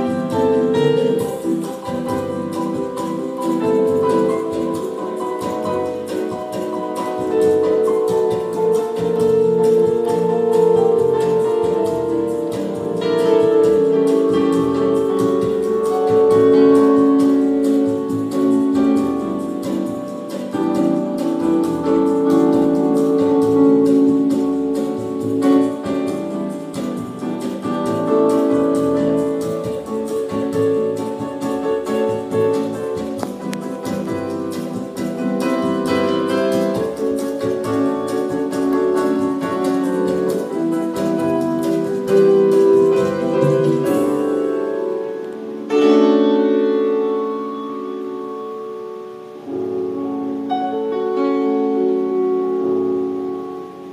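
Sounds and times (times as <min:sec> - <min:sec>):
guitar notes: 0:00.0 - 0:53.9
held keyboard chords: 0:00.0 - 0:53.9.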